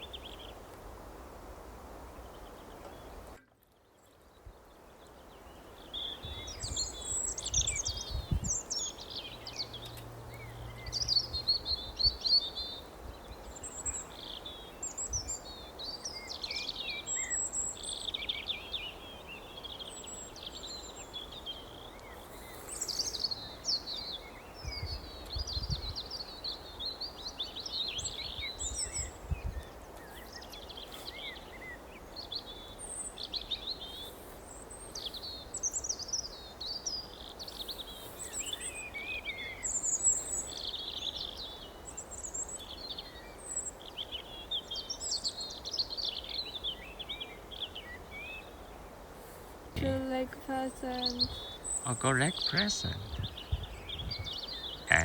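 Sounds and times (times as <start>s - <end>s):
small birds chirping and singing: 2.0s - 55.0s
steady background hiss: 4.6s - 55.0s.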